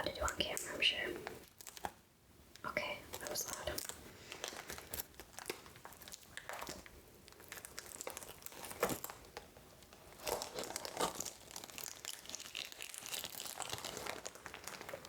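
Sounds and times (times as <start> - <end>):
plastic wrapping crinkling: 0.1 - 2.0, 3.0 - 15.0.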